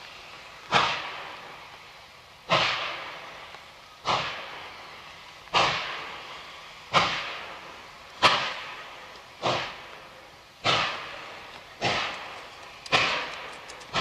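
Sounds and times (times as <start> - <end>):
steam locomotive chuffing: 0.0 - 14.0.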